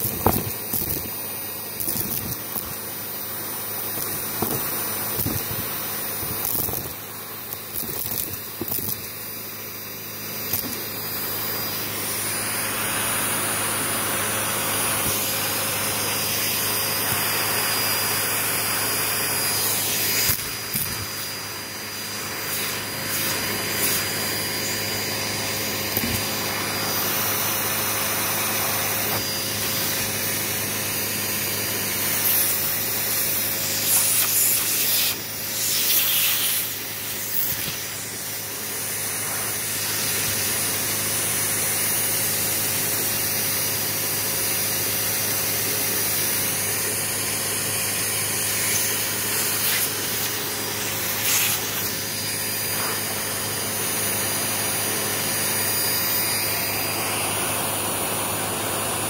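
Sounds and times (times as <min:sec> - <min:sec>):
vacuum cleaner on carpet: 0:00.0 - 0:59.0.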